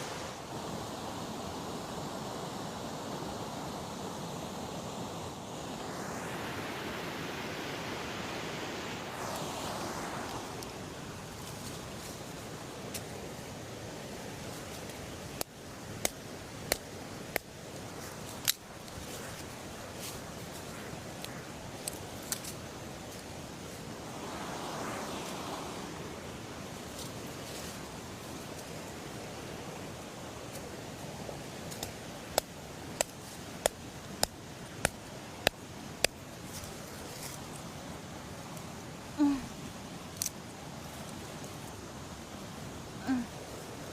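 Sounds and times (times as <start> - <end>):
flowing river water: 0.0 - 43.9.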